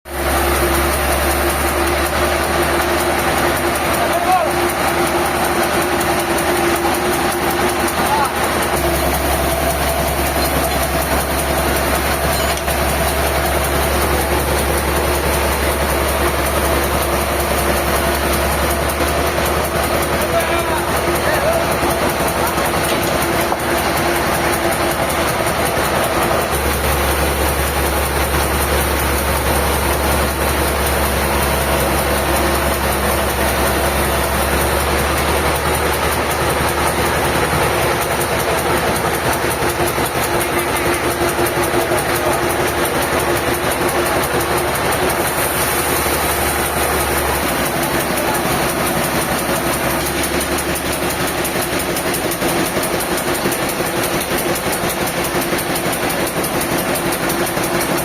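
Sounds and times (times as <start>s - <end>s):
diesel engine clattering: 0.1s - 58.0s.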